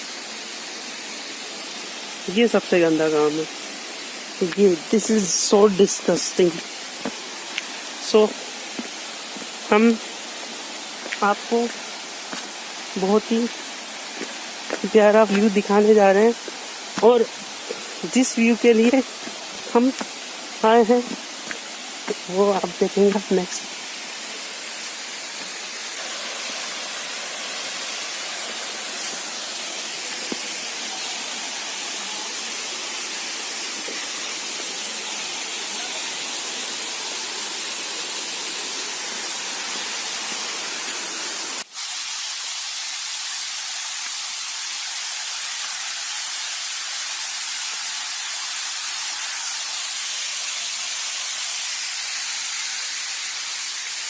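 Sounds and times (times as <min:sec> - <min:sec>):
waterfall hissing: 0:00.0 - 0:54.0.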